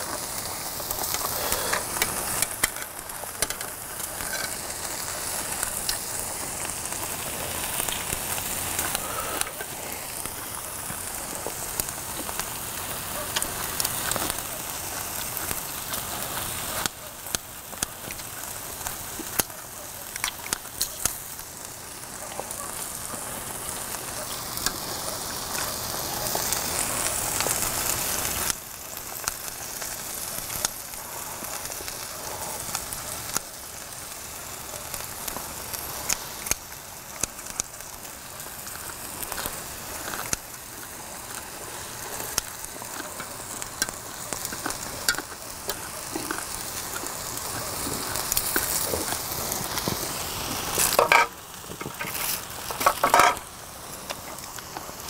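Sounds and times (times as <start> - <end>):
beef sizzling on griddle: 0.0 - 55.0.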